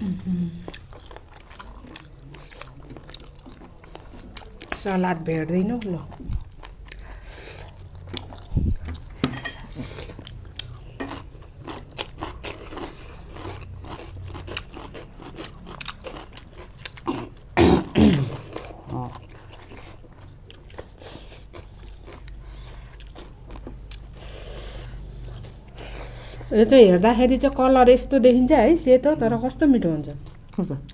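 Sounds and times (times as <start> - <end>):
person chewing crunchy food: 0.6 - 4.8, 5.8 - 26.5.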